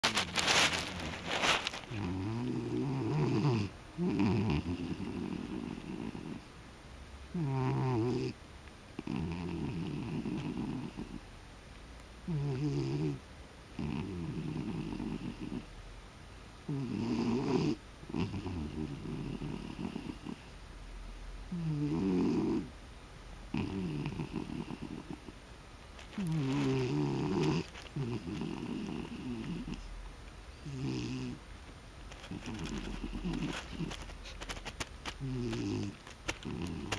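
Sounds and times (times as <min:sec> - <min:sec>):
rhythmic snoring: 0:00.0 - 0:06.4, 0:07.3 - 0:08.4, 0:09.0 - 0:11.2, 0:12.2 - 0:15.7, 0:16.7 - 0:20.5, 0:21.5 - 0:22.7, 0:23.5 - 0:25.4, 0:26.0 - 0:31.4, 0:32.1 - 0:36.9.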